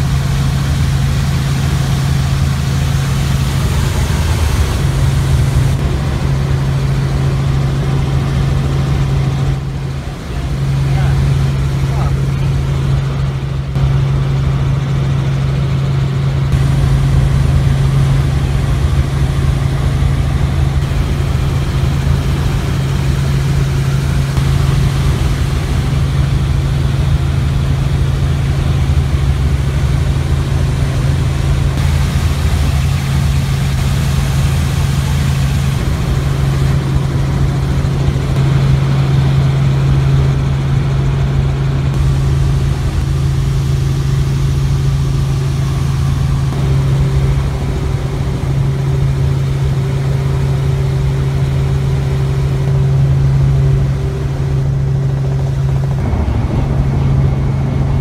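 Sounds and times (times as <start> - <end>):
helicopter rotor and engine drone: 0.0 - 58.0.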